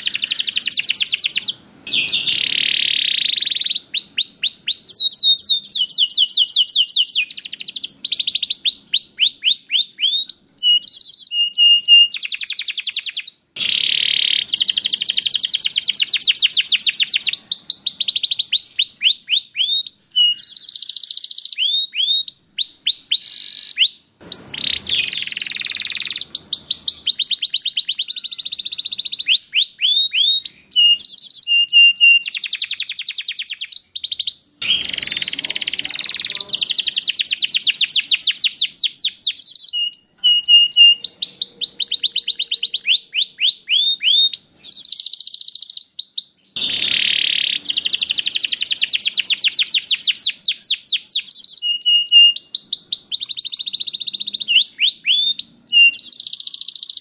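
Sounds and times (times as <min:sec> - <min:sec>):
canary singing rapid trills: 0:00.0 - 0:57.0.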